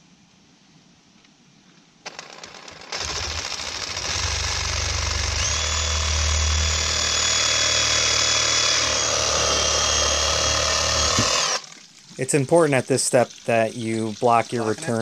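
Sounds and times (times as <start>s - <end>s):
reciprocating saw cutting pipe: 2.1s - 15.0s.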